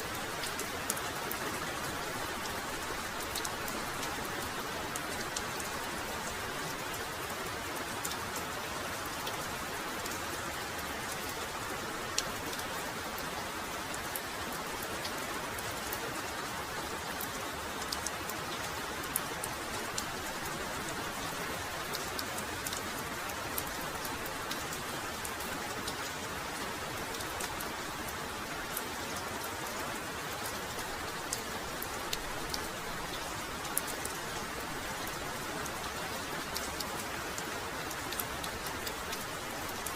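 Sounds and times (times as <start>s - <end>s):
heavy rain falling: 0.0s - 39.9s
sharp ticks of raindrops: 0.0s - 39.9s.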